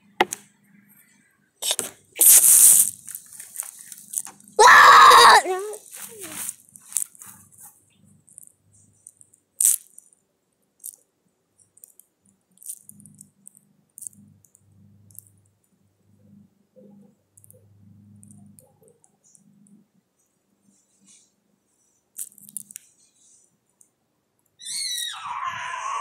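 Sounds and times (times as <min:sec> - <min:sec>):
faint clicks and crackles: 0:00.1 - 0:04.6, 0:05.5 - 0:24.6.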